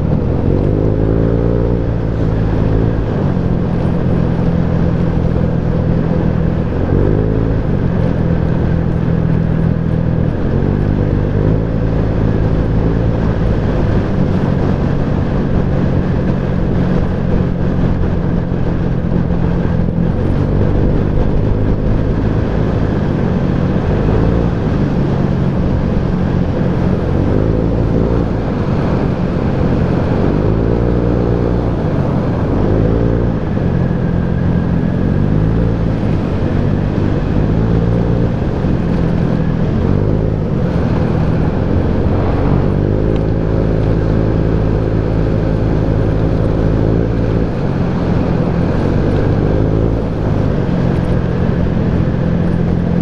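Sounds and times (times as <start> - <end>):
motorcycle engine running: 0.0 - 53.0
wind noise: 0.0 - 53.0.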